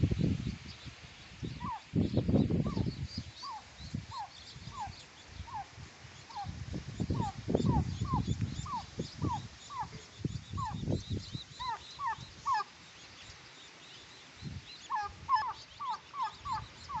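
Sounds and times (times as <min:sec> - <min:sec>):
turkey poults peeping: 0:01.1 - 0:17.0.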